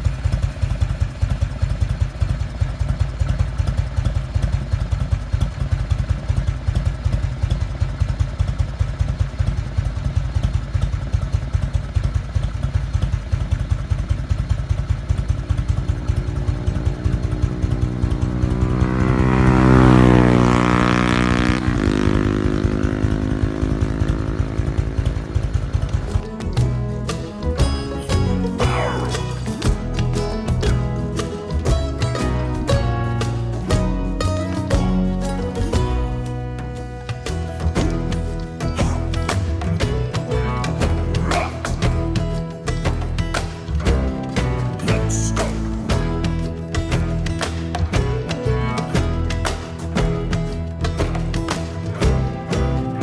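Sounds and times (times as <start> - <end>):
motorcycle engine idling and revving: 0.0 - 53.0.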